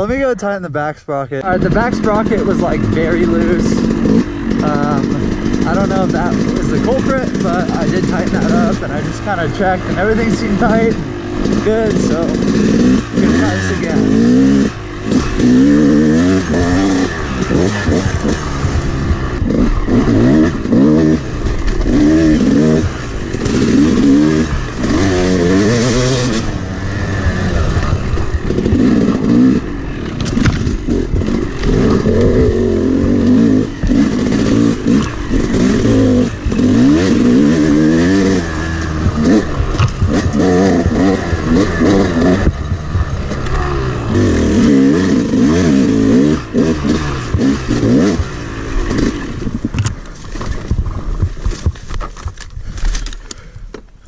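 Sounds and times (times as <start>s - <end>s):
dirt bike engine revving: 1.4s - 52.4s.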